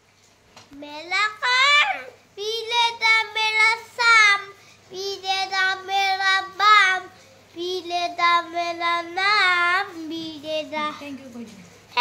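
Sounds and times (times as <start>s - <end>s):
boy singing high: 0.8s - 11.0s.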